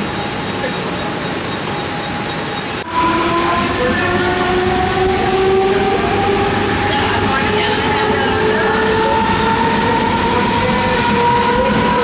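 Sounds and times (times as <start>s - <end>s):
rumbling train noise: 0.0s - 12.0s.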